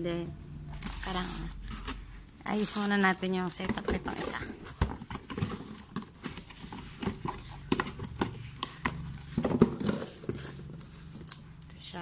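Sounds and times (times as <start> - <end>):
plastic wrapping crinkling: 0.8 - 11.6.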